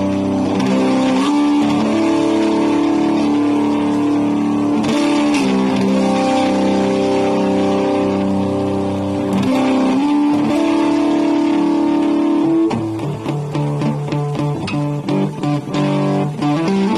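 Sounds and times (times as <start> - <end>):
electric guitar chords: 0.0 - 16.9.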